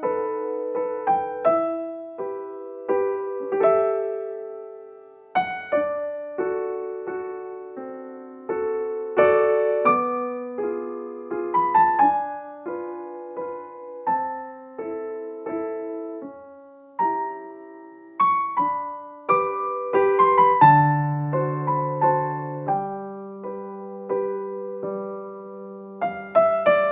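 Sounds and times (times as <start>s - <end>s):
slow solo piano: 0.0s - 26.9s.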